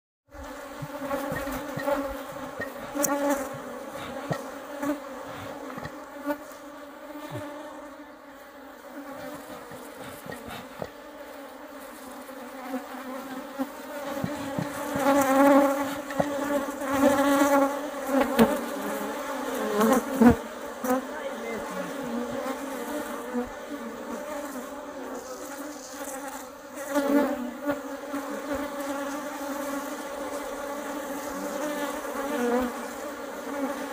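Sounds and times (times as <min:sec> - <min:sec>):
bees buzzing: 0:00.3 - 0:33.9.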